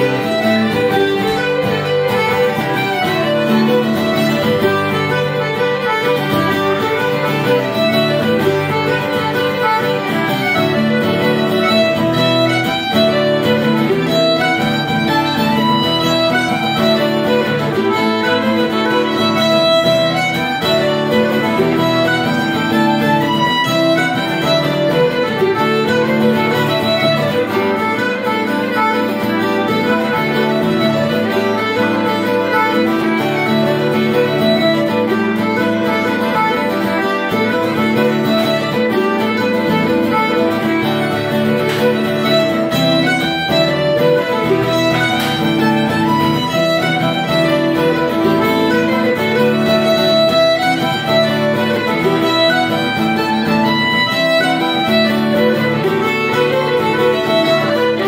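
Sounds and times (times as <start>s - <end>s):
fiddle melody: 0.0s - 58.0s
plucked mandolin: 0.0s - 58.0s
strummed acoustic guitar: 0.0s - 58.0s.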